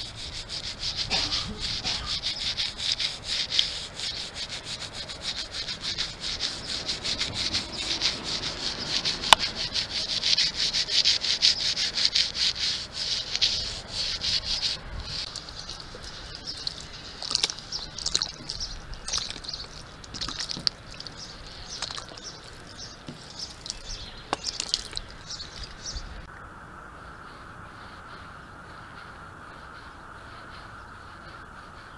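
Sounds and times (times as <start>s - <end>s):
brush scrubbing: 0.0s - 26.0s.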